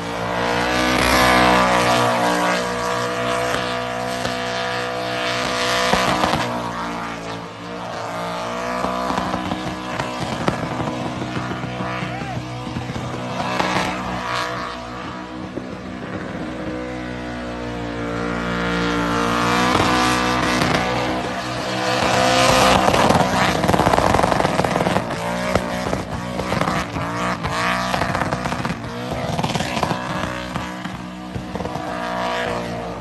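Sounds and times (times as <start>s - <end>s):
car engine revving high: 0.0s - 33.0s.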